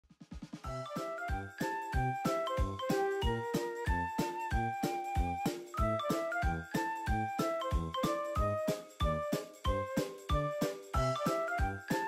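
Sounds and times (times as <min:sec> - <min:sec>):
light tune over steady beat: 0:00.7 - 0:12.0.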